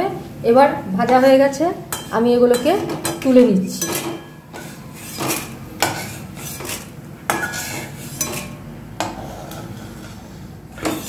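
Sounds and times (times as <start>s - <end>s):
metal spatula scraping a wok: 1.9s - 11.0s.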